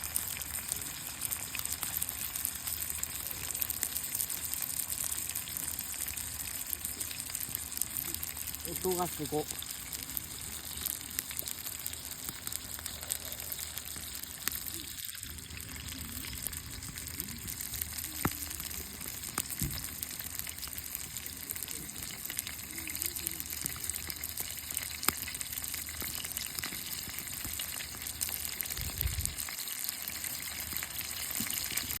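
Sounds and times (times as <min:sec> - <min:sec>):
meat sizzling on grill: 0:00.0 - 0:32.0.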